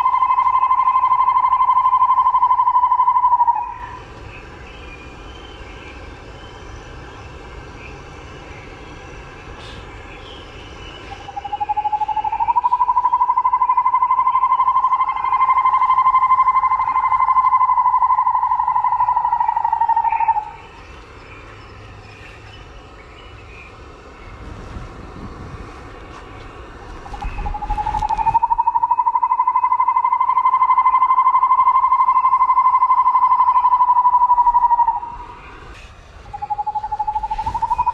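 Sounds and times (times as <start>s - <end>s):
cicada calling: 0.0s - 24.5s, 27.0s - 37.9s.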